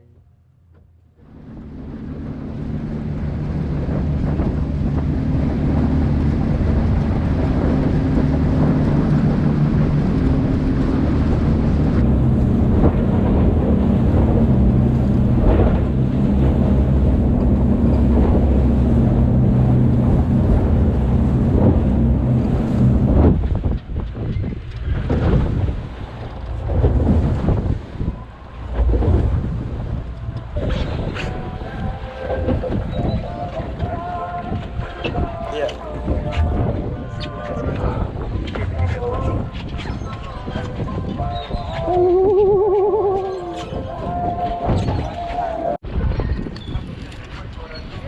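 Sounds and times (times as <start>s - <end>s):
boat engine running: 0.0s - 48.0s
wind on microphone: 1.2s - 48.0s.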